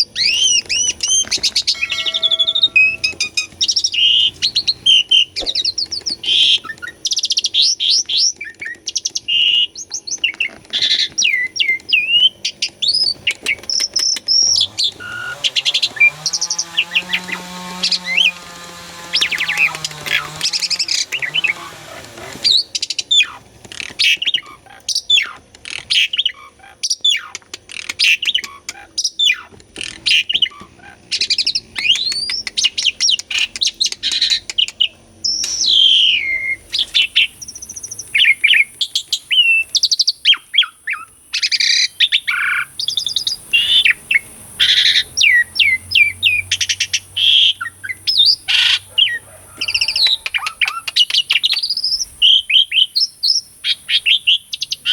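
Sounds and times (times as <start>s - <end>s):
starling singing: 0.0s - 9.6s, 10.2s - 54.9s.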